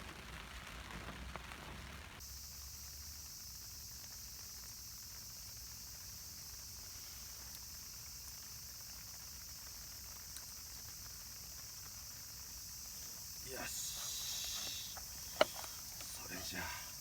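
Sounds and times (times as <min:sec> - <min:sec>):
insects chirping: 0:02.2 - 0:17.0
faint ticks: 0:03.0 - 0:17.0.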